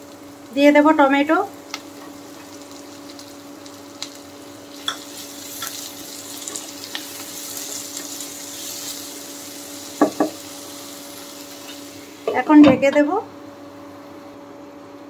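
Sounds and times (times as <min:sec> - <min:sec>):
vegetables sizzling in hot oil: 0:00.0 - 0:13.6.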